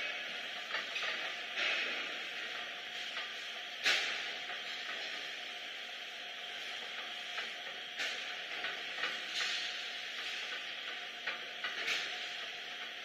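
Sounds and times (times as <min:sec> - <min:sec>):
machine humming and hissing: 0:00.0 - 0:13.0.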